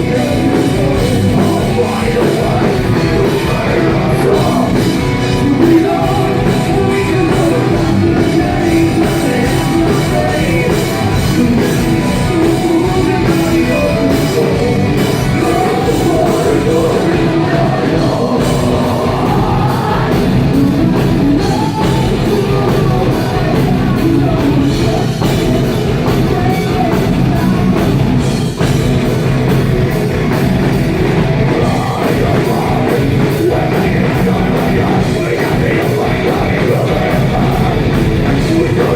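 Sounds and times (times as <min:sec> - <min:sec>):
fast drumming: 0:00.0 - 0:38.9
live metal band playing: 0:00.0 - 0:38.9
vocals: 0:00.0 - 0:38.9.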